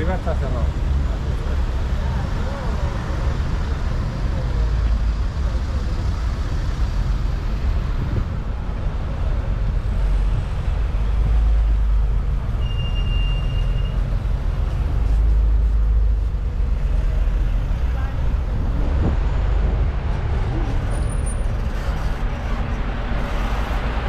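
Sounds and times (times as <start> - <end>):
passing cars and buses: 0.0 - 24.0.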